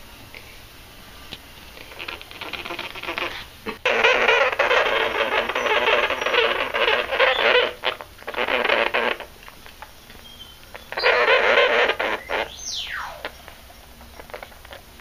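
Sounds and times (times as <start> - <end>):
sugar gliders rasping chatter: 1.8 - 15.0.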